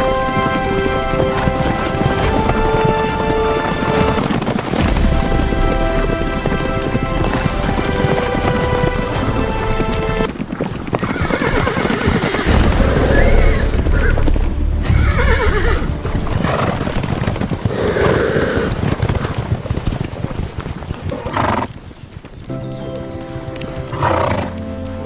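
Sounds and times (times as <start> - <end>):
horses whinnying: 0.0 - 21.8, 23.8 - 24.6
hoofbeats of galloping horses: 0.0 - 25.0.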